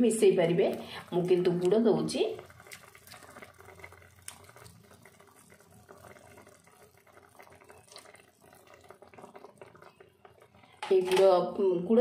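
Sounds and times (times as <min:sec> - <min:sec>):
gravy simmering with small pops: 0:00.0 - 0:12.0.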